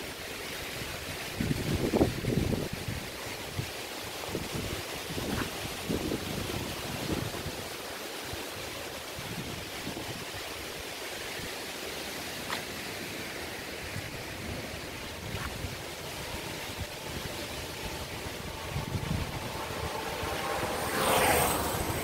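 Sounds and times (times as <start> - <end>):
wind on microphone: 0.7 - 11.6, 13.7 - 22.0.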